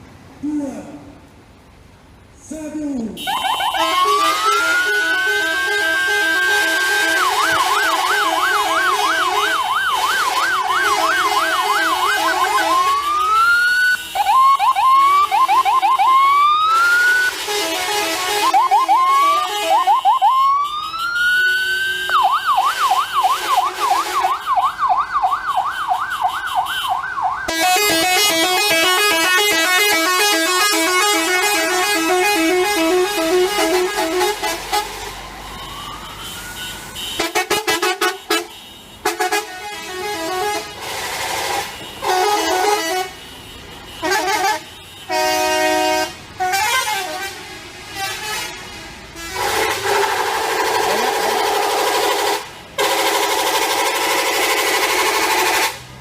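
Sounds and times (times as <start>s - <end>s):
multi-tone bus horns: 3.2s - 24.8s, 25.6s - 56.0s.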